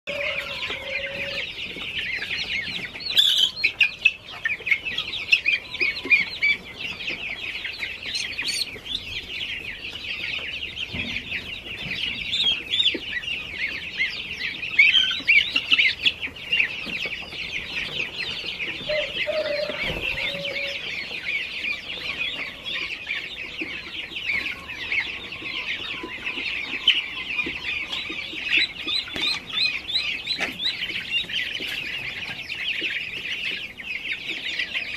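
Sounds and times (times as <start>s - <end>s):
chicks and goslings peeping: 0.1s - 34.9s.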